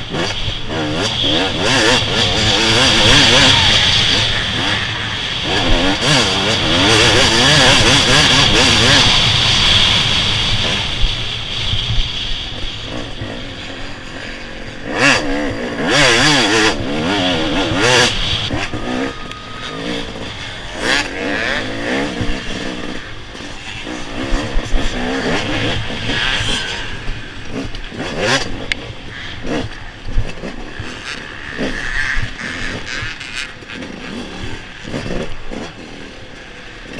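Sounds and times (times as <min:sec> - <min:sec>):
off-road motorcycle engine revving: 0:00.0 - 0:36.9.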